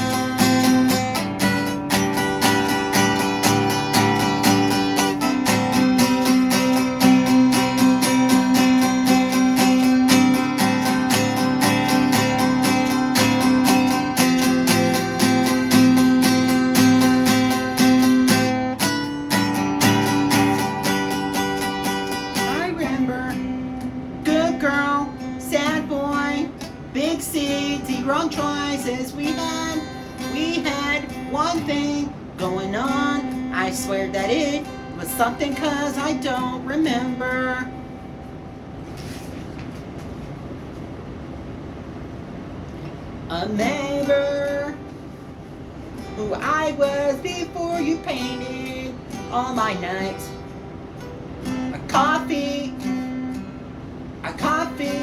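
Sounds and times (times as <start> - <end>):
acoustic guitar strumming: 0.0 - 39.4, 43.2 - 55.0.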